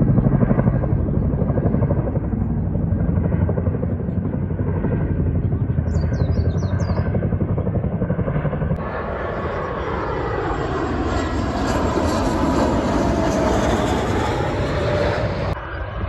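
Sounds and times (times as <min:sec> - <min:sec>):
helicopter rotor beating: 0:00.0 - 0:15.8
aircraft engine rushing: 0:00.0 - 0:16.0.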